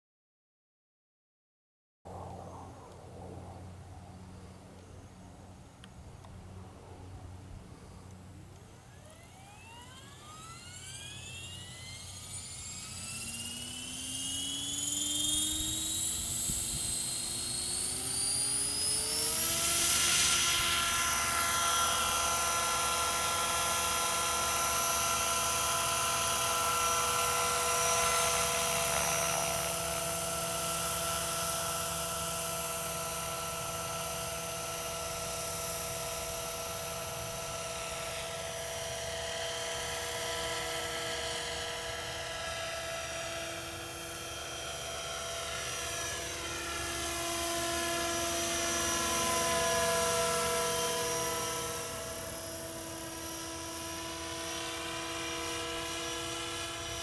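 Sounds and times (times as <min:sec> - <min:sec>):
model helicopter whine: 0:02.1 - 0:57.0.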